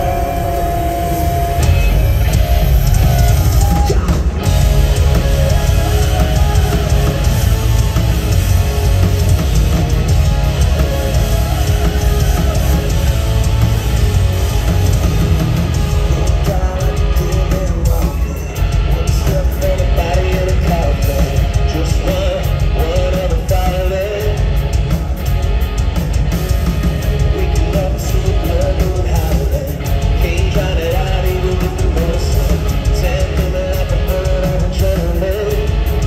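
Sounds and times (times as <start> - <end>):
bass guitar: 0.0 - 36.0
drum kit: 0.0 - 36.0
electric guitars: 0.0 - 36.0.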